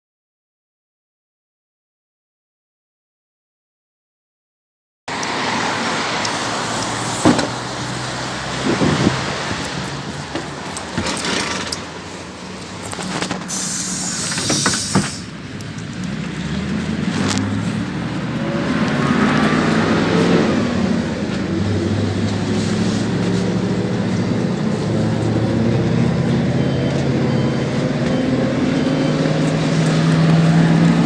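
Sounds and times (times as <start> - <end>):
bus engine running under load: 5.1 - 31.0.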